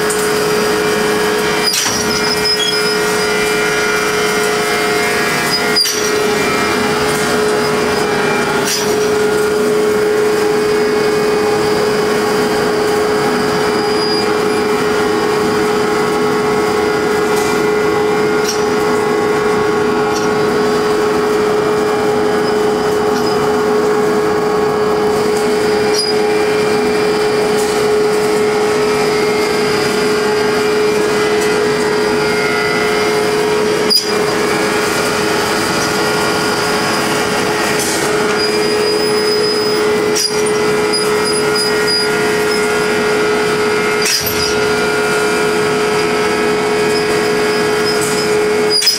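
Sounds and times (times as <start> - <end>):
chain drive machine drone: 0.0 - 48.9.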